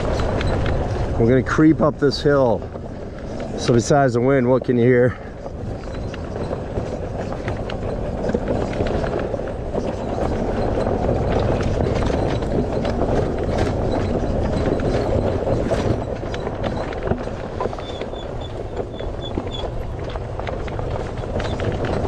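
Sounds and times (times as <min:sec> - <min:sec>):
tyres crunching over rocky trail: 0:00.0 - 0:22.0
wind rushing over microphone: 0:00.0 - 0:22.0.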